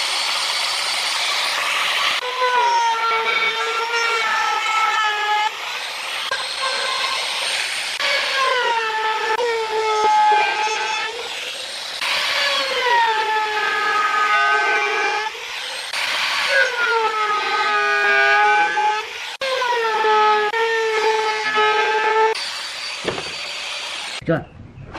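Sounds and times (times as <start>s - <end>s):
power tool cutting wood: 0.0s - 24.2s.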